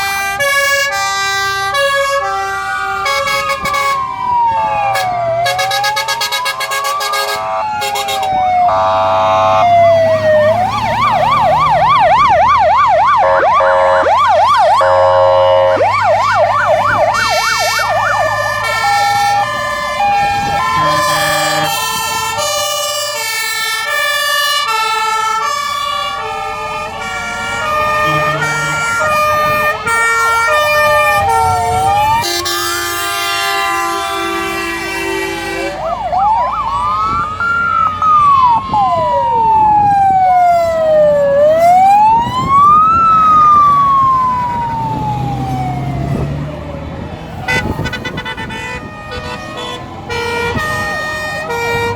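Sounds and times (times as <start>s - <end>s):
fire engine sirens: 0.0s - 51.9s
truck engines rumbling: 0.0s - 51.9s.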